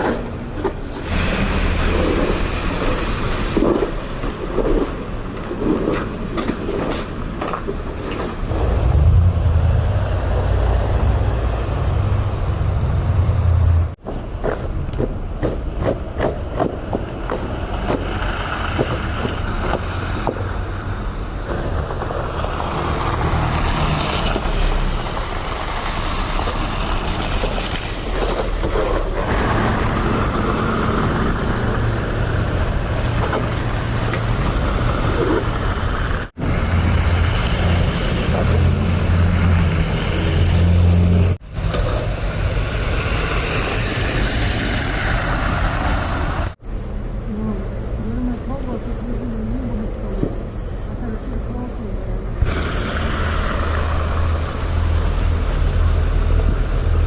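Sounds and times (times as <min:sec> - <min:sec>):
city traffic engines: 0:00.0 - 0:57.0.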